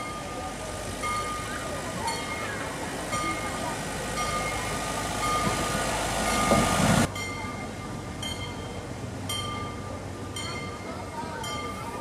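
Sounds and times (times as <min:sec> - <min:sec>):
railbus engine and wheels: 0:00.0 - 0:12.0.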